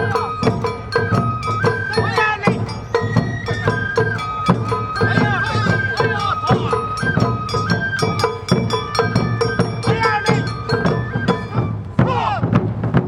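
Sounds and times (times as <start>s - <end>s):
metal bell strikes: 0.0s - 11.6s
people shouting: 0.0s - 12.5s
flute melody: 0.0s - 12.6s
drum beat: 0.0s - 13.0s.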